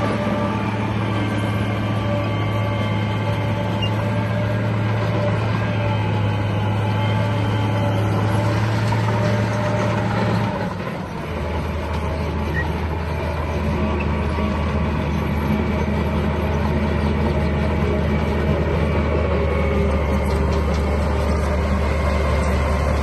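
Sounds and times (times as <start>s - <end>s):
bulldozer engine running: 0.0s - 23.0s.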